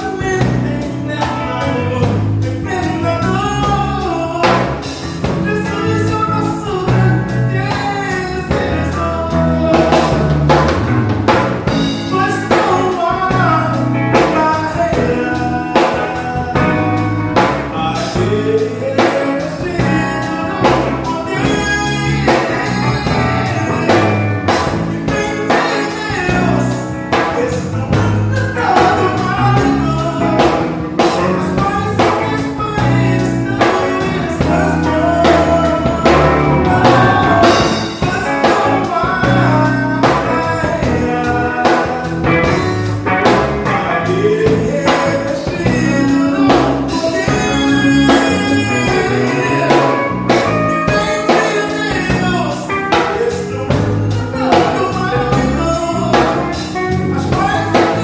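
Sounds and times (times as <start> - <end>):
band music with singing: 0.0 - 58.0.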